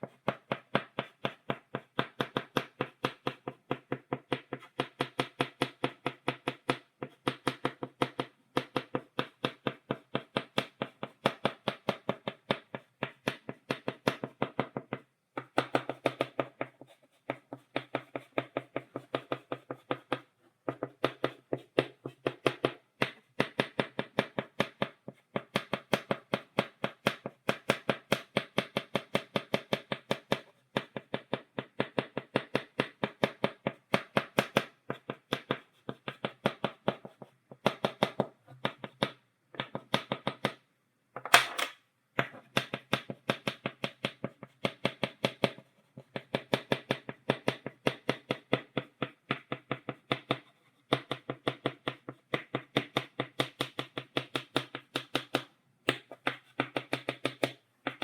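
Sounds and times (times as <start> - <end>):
chalk tapping on blackboard: 0.0 - 40.6, 42.2 - 58.0.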